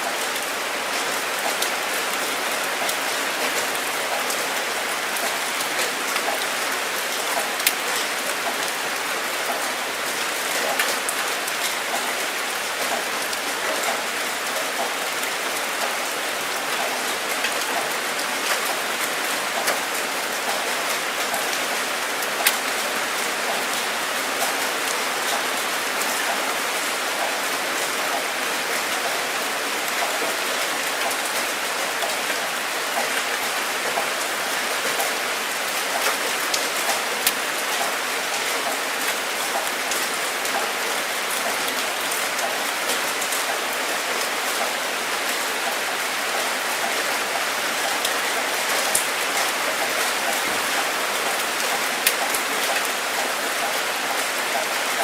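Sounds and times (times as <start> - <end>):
steady rain falling: 0.0 - 55.0
raindrops tapping a surface: 0.1 - 55.0.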